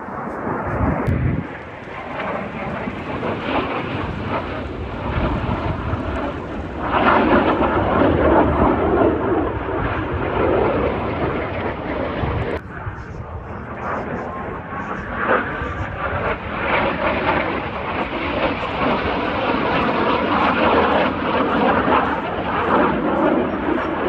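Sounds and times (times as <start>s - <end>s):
jets passing over: 0.0s - 24.0s.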